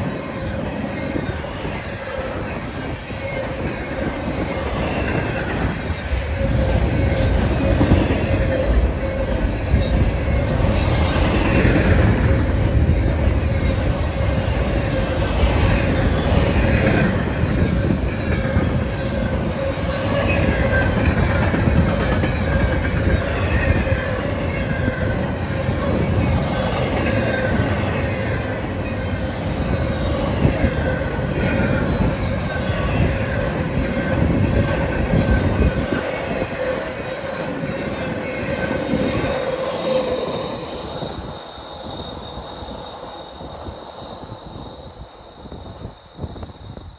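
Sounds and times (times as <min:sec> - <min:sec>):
freight train wheels rumbling: 0:00.0 - 0:46.9
train wheel squeals: 0:00.0 - 0:46.9.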